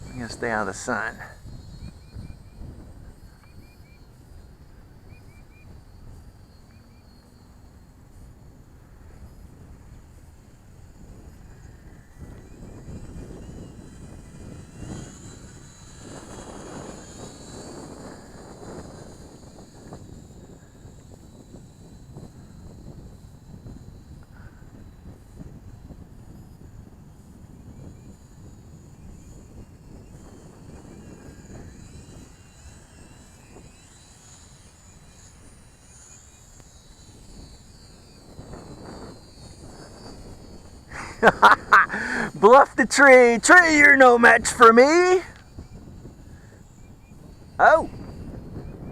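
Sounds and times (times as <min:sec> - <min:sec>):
wind rumble on microphone: 0:00.0 - 0:43.5, 0:44.1 - 0:48.9
small electric motors whining: 0:00.0 - 0:48.9.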